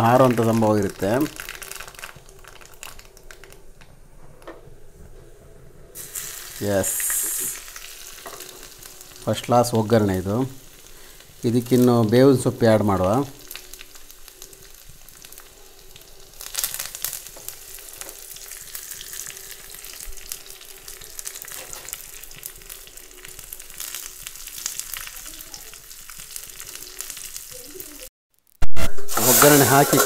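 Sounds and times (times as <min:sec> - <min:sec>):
spices sizzling in hot oil: 0:00.0 - 0:03.6, 0:06.0 - 0:30.0.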